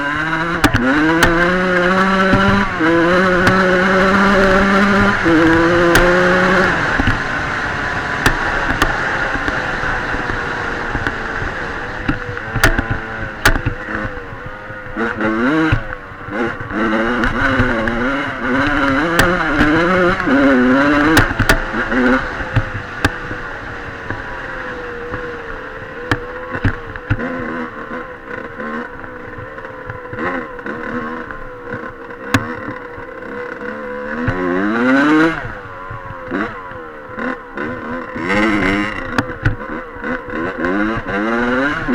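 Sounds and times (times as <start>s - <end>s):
dirt bike engine revving: 0.0s - 41.9s
sharp clicks and knocks: 0.0s - 41.9s.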